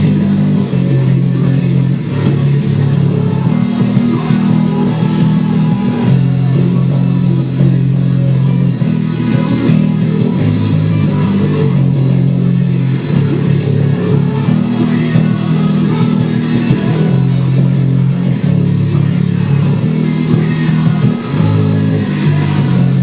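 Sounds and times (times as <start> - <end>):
electric bass guitar: 0.0 - 23.0
rock band playing: 0.0 - 23.0.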